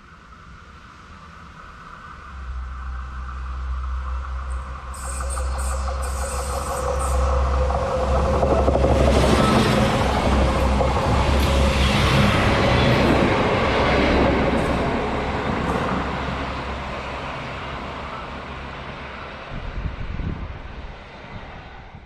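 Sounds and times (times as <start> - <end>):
diesel railcar engine drone: 0.0 - 22.0
wheel and rail rumble: 0.0 - 22.0.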